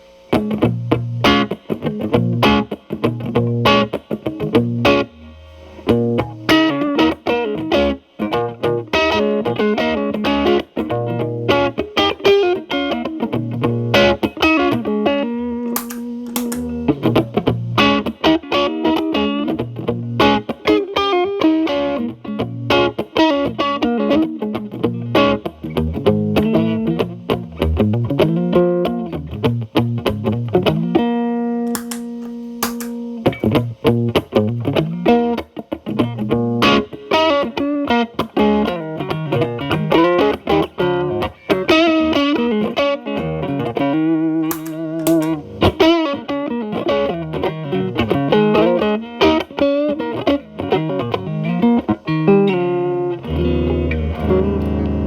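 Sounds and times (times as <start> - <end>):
distorted electric guitar: 0.0 - 55.0.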